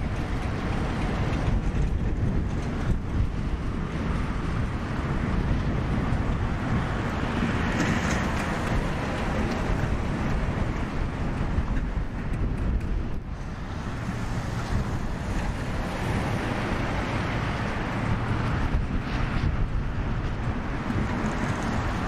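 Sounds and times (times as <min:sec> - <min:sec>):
freight train rumbling: 0:00.0 - 0:22.0
rail clicks: 0:00.0 - 0:22.0
wind buffeting microphone: 0:00.0 - 0:22.0.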